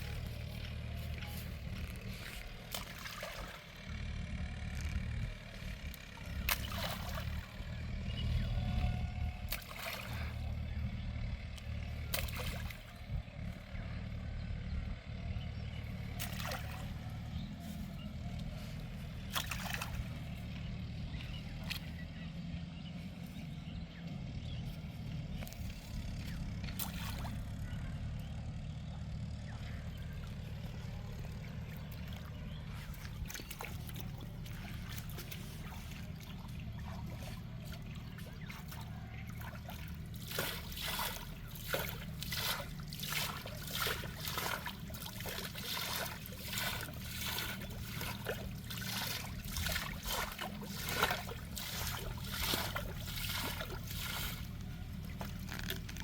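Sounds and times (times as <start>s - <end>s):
water splashes: 0.0s - 10.7s, 11.6s - 13.5s, 16.0s - 22.1s, 25.6s - 27.7s, 29.5s - 56.0s
water trickling and sloshing: 0.0s - 13.7s, 14.9s - 22.4s, 25.3s - 27.8s, 29.2s - 56.0s
steady low hum: 0.0s - 56.0s.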